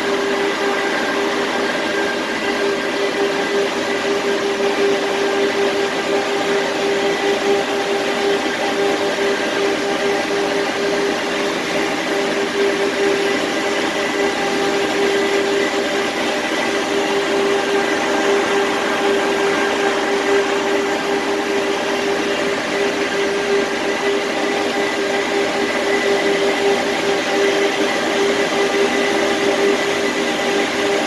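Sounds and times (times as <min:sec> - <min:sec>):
machine humming: 0:00.0 - 0:31.0.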